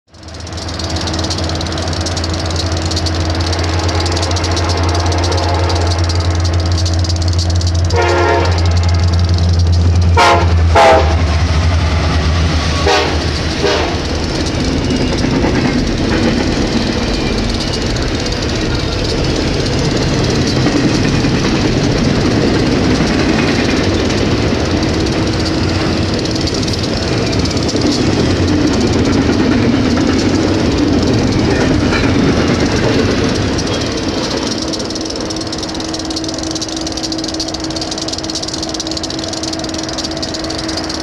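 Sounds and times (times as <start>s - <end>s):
diesel locomotive idling: 0.1s - 41.0s
freight train rolling past: 0.1s - 41.0s
container cars clattering: 0.2s - 41.0s.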